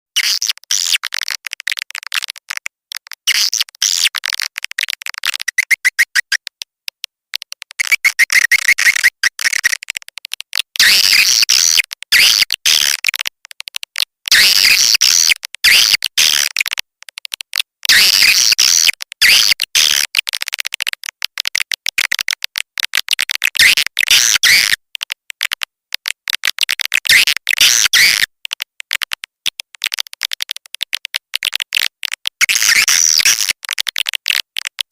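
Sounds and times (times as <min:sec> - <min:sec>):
swiftlet chattering clicks and chirps: 0:00.2 - 0:34.9.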